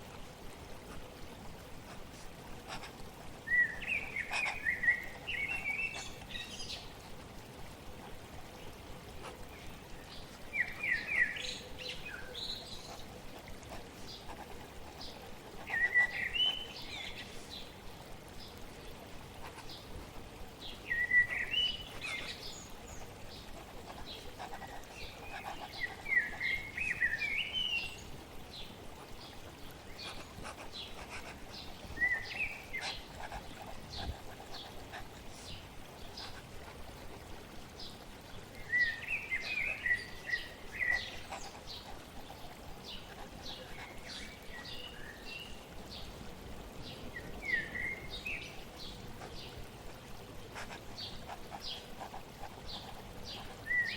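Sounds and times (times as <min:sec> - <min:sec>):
flowing water: 0:00.0 - 0:53.9
songbirds chirping: 0:00.0 - 0:53.9.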